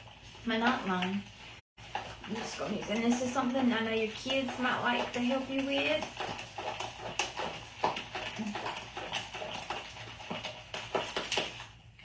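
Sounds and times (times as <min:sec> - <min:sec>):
spatula scraping plastic tub: 0:01.8 - 0:11.6.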